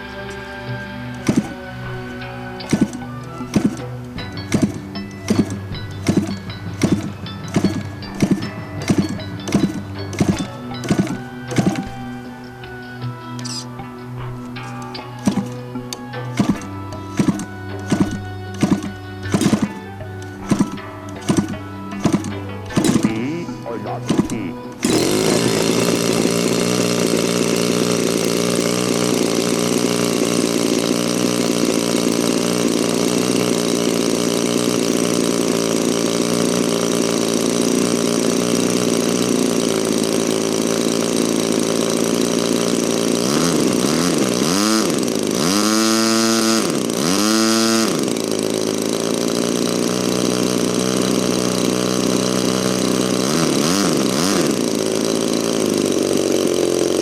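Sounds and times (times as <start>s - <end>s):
model airplane engine running: 0.0s - 57.0s.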